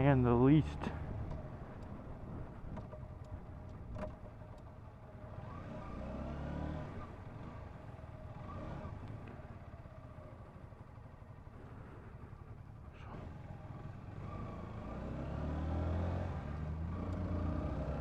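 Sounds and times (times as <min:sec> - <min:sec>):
motorcycle engine running: 0:00.8 - 0:15.3.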